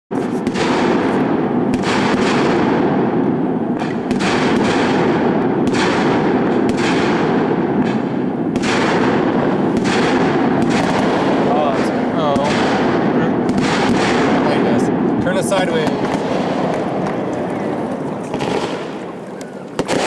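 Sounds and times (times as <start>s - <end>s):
firework bangs: 0.1s - 20.0s.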